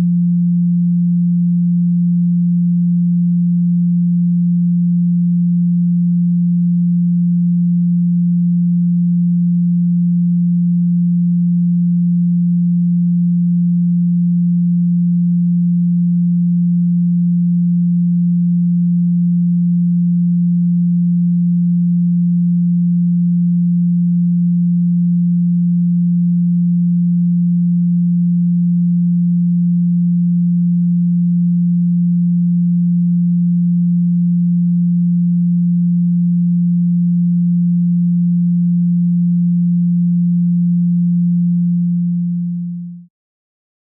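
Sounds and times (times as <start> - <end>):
steady pure tone: 0.0 - 43.0.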